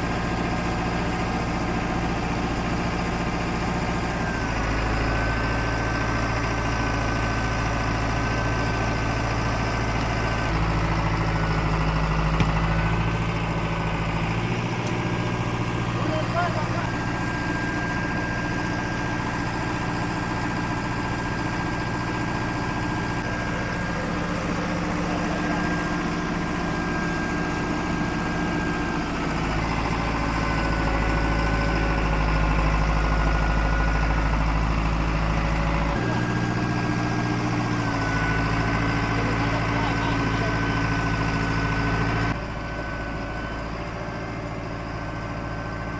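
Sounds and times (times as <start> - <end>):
heavy machine engine running: 0.0 - 45.9.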